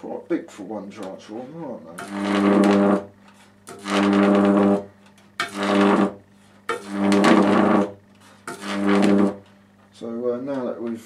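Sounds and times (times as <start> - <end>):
buzzing electric arcs: 0.0 - 11.0.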